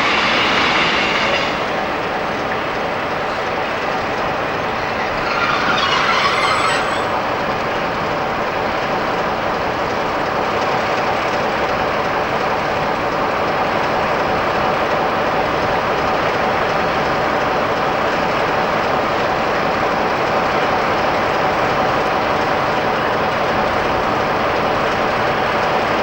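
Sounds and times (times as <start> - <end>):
freight train rolling on rails: 0.0 - 26.0.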